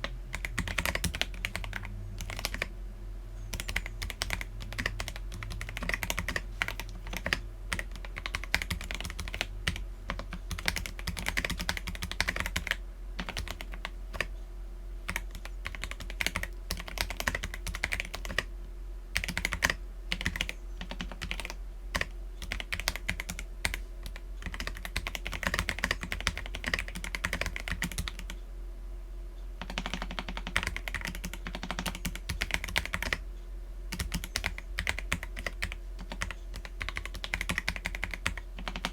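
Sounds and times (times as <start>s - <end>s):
mechanical keyboard typing: 0.0s - 2.7s, 3.5s - 14.3s, 15.1s - 18.5s, 19.2s - 28.4s, 29.6s - 33.2s, 33.9s - 38.9s
faint low hum: 0.0s - 38.9s.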